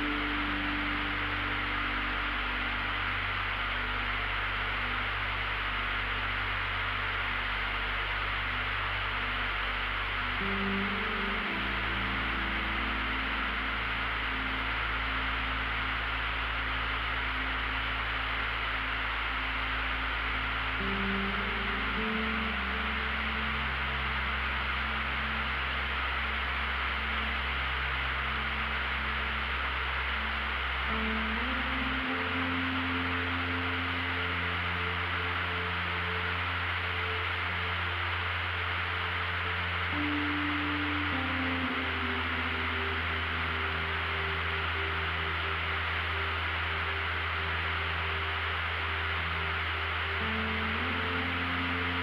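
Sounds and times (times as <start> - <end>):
light aircraft engine drone: 0.0 - 52.0
low ambient music chord: 0.0 - 52.0.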